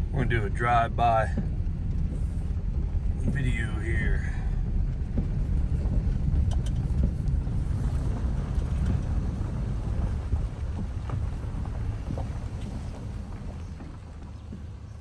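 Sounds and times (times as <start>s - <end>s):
tractor diesel engine rumbling: 0.0s - 15.0s
wind buffeting microphone: 0.0s - 15.0s.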